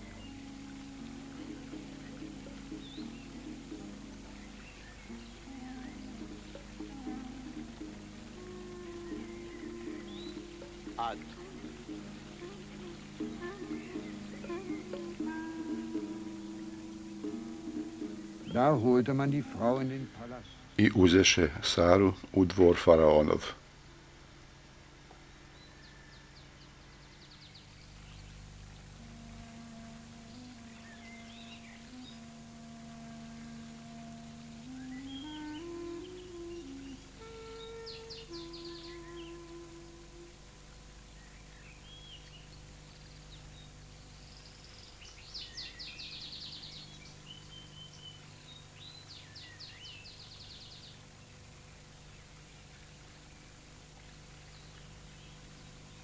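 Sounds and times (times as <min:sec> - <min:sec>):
faint birdsong chirps: 0:00.0 - 0:23.5, 0:25.3 - 0:56.0
steady hiss and hum: 0:00.0 - 0:56.0.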